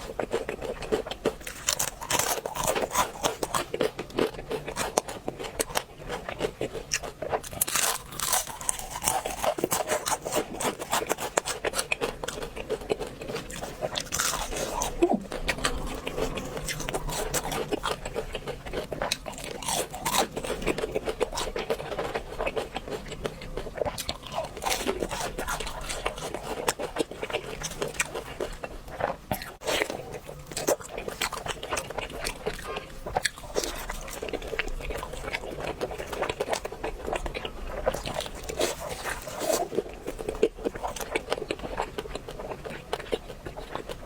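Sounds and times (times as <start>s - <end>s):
crunching crispy fried food: 0.0s - 44.0s.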